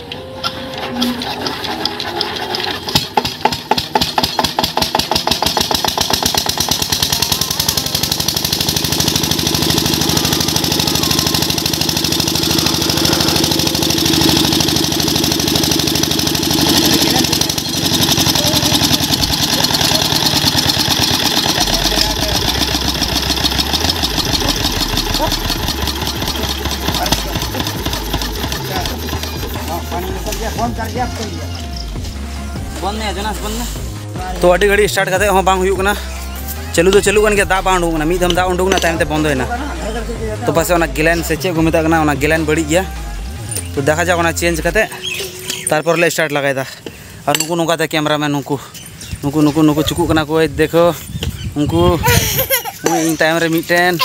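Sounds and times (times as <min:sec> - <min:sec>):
small pump engine starting and running: 0:00.0 - 0:33.9, 0:34.5 - 0:45.7, 0:51.4 - 0:54.0.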